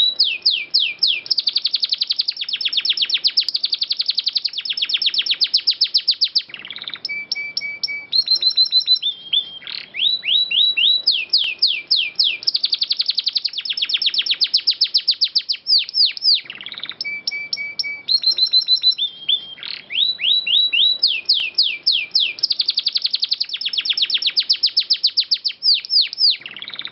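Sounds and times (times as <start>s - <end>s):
canary singing trills: 0.0s - 26.9s.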